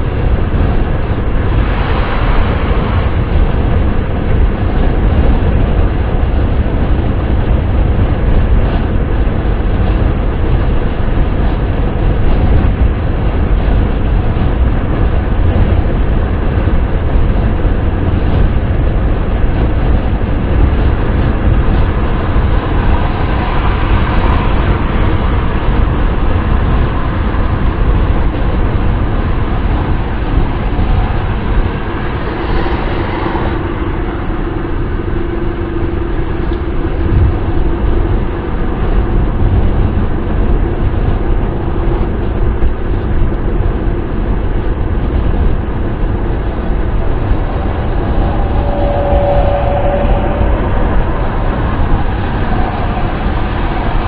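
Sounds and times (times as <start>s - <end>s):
car wind and road noise: 0.0s - 54.0s.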